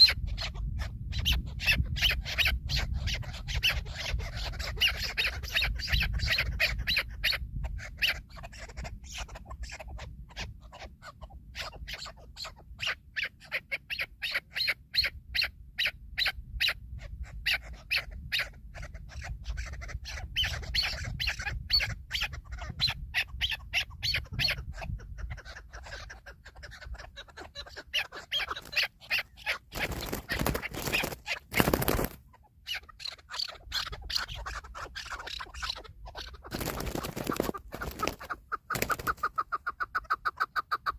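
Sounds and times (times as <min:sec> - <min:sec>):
partridge clucking calls: 0:00.0 - 0:40.9.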